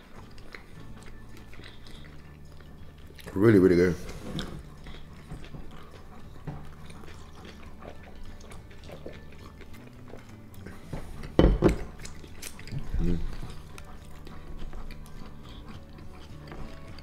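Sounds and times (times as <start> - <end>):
person chewing with mouth clicks: 0.0 - 3.6, 4.3 - 17.0.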